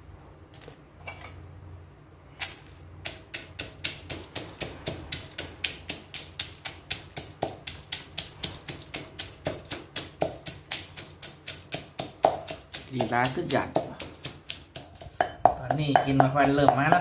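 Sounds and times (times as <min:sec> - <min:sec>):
stone pestle pounding in mortar: 0:03.0 - 0:17.0.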